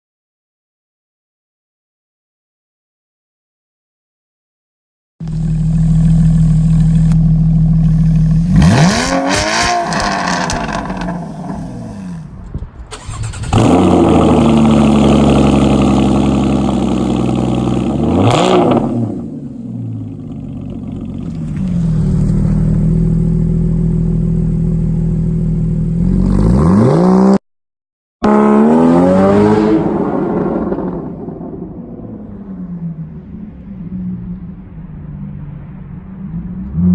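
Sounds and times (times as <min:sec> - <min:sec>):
car engine idling and revving: 0:05.2 - 0:27.4, 0:28.2 - 0:36.9.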